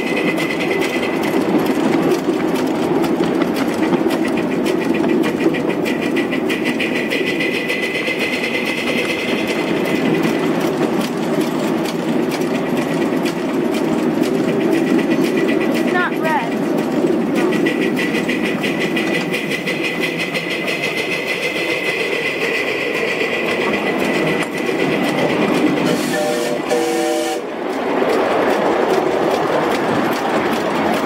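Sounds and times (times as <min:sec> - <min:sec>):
miniature train rumbling on track: 0:00.0 - 0:31.0.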